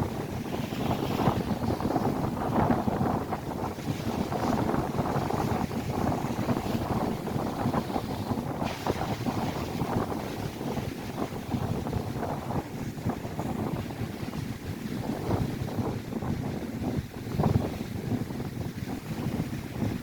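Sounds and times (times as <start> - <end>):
lake waves breaking on shore: 0.0 - 20.0
wind buffeting microphone: 0.0 - 20.0.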